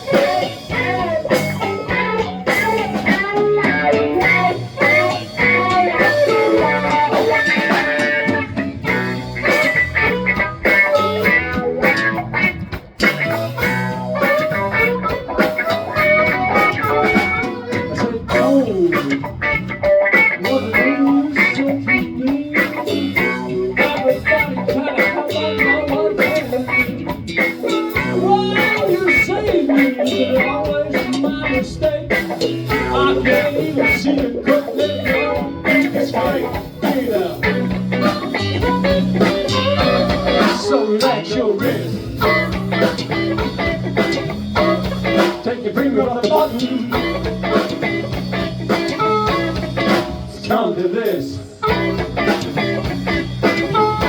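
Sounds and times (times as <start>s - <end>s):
bending lead guitar line: 0.0s - 54.0s
blues-rock band playing: 0.0s - 54.0s.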